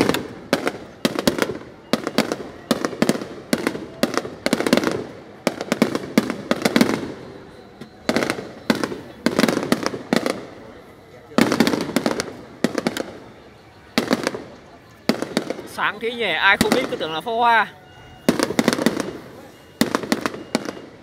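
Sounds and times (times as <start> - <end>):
fireworks banging and crackling: 0.0 - 21.0.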